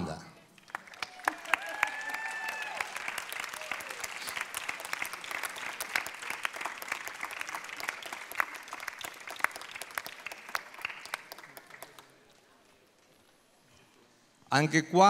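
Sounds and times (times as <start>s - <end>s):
audience applauding: 0.5s - 12.7s.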